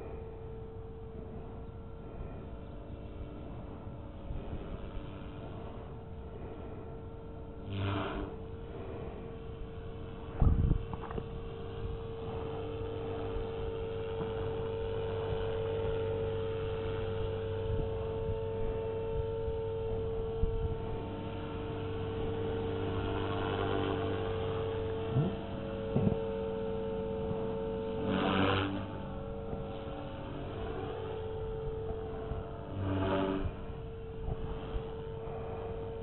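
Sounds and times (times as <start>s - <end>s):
rc helicopter motor whine: 0.0s - 36.0s.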